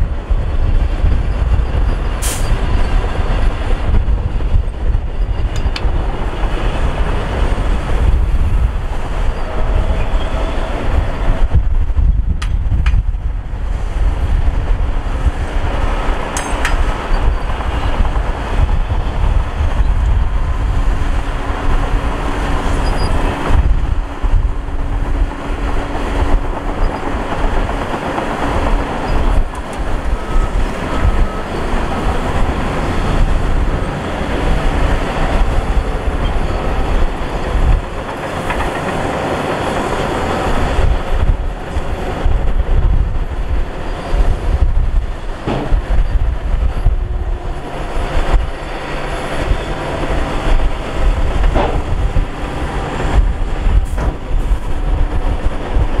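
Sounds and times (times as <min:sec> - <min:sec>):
heavy machinery rumbling: 0:00.0 - 0:56.0.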